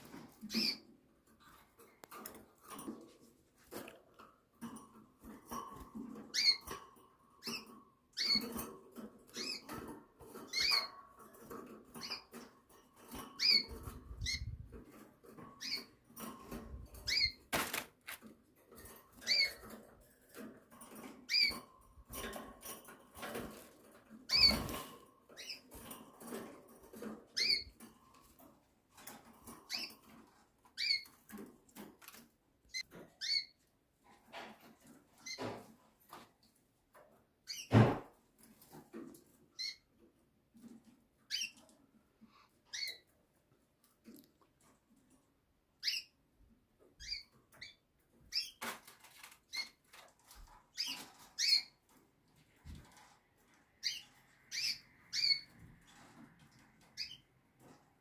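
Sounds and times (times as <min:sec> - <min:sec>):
canaries chirping: 0:00.0 - 0:01.4, 0:05.2 - 0:33.7, 0:37.4 - 0:38.0, 0:38.9 - 0:40.0, 0:40.6 - 0:41.7, 0:42.3 - 0:44.7, 0:45.7 - 0:58.0
small clicks and rustles: 0:00.0 - 0:58.0.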